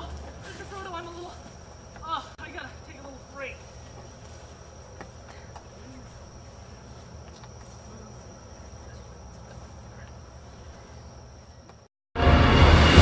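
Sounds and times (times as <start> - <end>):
insects droning: 0.0 - 11.9.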